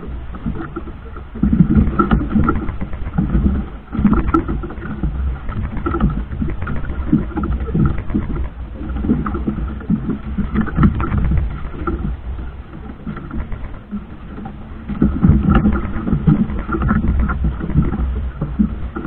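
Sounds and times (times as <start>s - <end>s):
boat engine low rumble: 0.0s - 19.0s
knocks and splashes: 0.0s - 19.0s.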